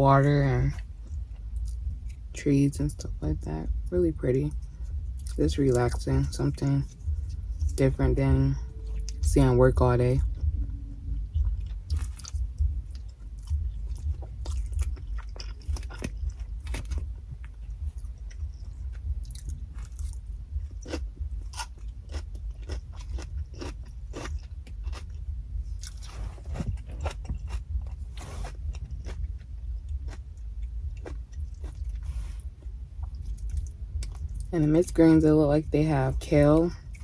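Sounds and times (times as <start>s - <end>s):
steady low rumble: 0.0s - 37.0s
person chewing food: 4.6s - 34.5s.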